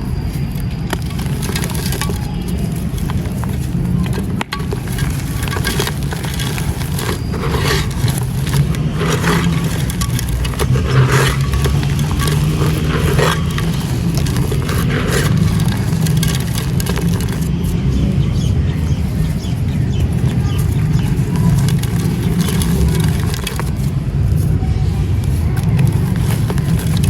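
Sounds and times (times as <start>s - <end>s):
gritty material crushed and scraped: 0.0s - 27.0s.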